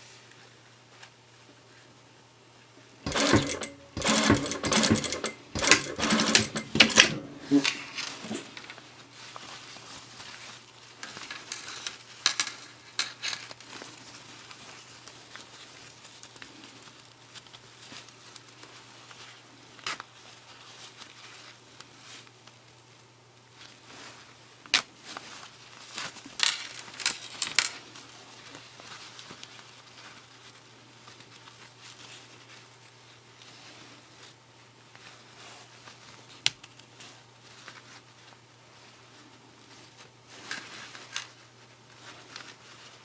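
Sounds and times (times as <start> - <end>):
fabric rustling and crinkling: 7.2 - 43.0.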